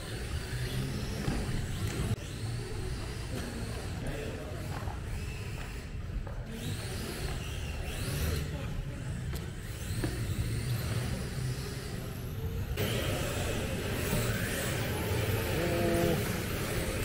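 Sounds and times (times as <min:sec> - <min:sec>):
rc car motor whine: 0:00.0 - 0:17.0.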